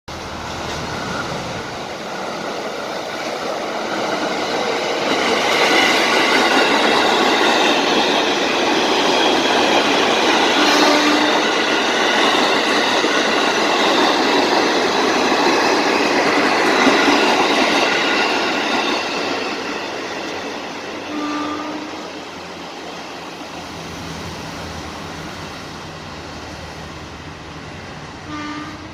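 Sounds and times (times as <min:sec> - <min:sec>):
train passing on rails: 0:00.1 - 0:28.9.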